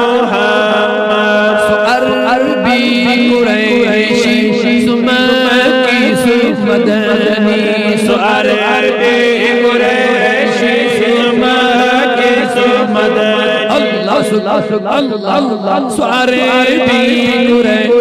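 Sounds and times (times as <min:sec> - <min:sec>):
man chanting: 0:00.0 - 0:18.0
held drone: 0:02.6 - 0:18.0.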